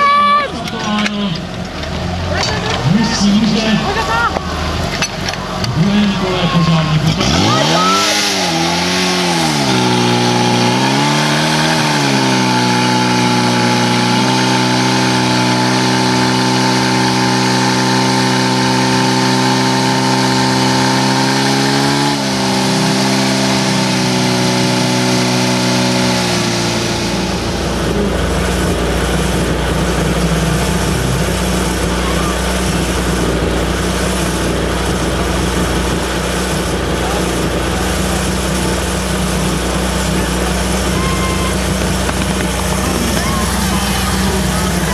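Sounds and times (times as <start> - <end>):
pump engine revving: 0.0 - 44.9.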